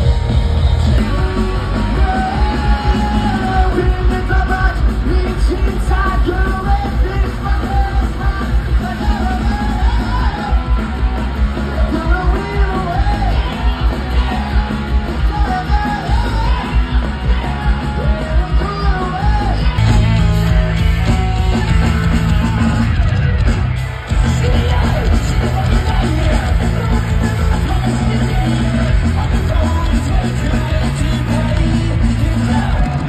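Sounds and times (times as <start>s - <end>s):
person singing: 0.0s - 23.2s, 24.1s - 33.0s
live rock band: 0.0s - 33.0s.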